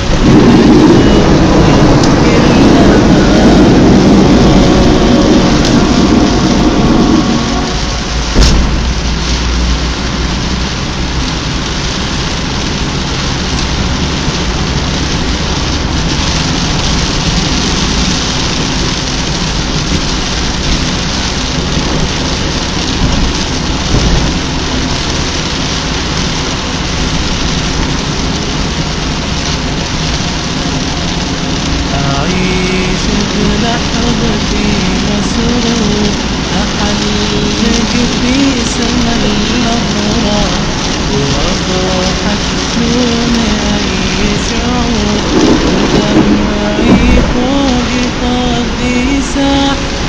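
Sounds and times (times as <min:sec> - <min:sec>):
thunderclap: 0:00.0 - 0:48.5
heavy rain pouring: 0:00.0 - 0:50.0.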